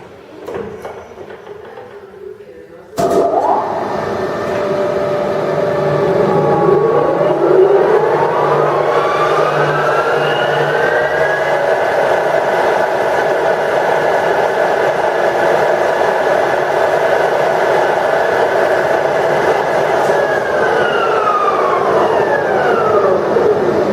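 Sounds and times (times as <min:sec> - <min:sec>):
lathe gears whining: 0:03.4 - 0:23.9.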